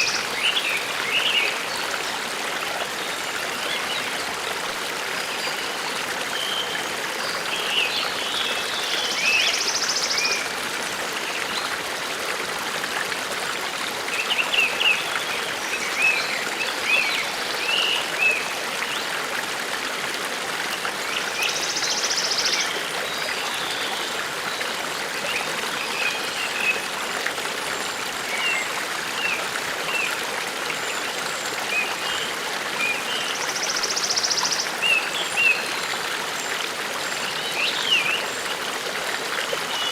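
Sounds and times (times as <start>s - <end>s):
forest stream running: 0.0s - 39.9s.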